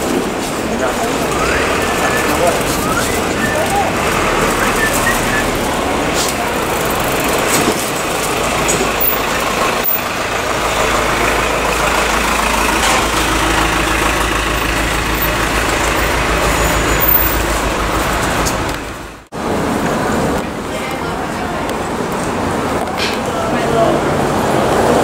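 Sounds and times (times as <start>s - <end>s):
city street traffic: 0.0s - 25.0s
large vehicle engine idling: 0.0s - 25.0s.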